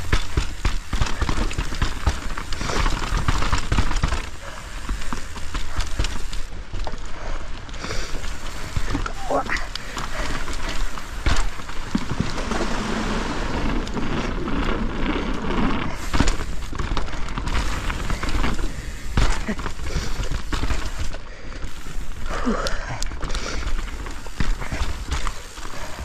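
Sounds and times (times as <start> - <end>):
bike knocks and rattles: 0.0 - 26.0
bike tyre rolling noise: 0.0 - 26.0.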